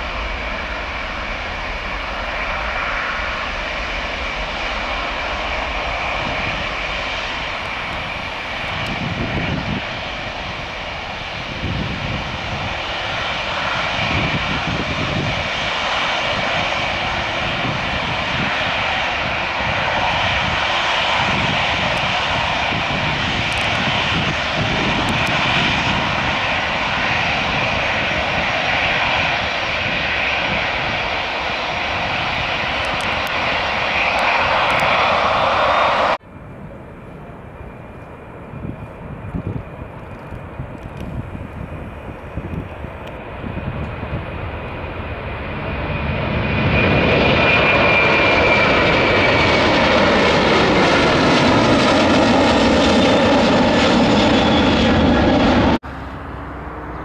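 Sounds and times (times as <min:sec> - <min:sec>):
jet airliner taking off: 0:00.0 - 0:57.0.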